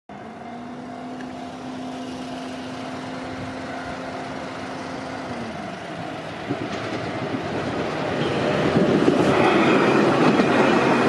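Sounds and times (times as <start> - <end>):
electric train humming and rumbling: 0.1 - 11.0.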